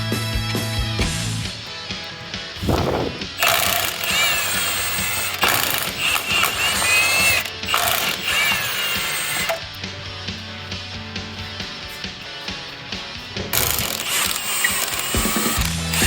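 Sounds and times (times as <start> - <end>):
background music: 0.0 - 16.0
power tool squealing: 1.4 - 16.0.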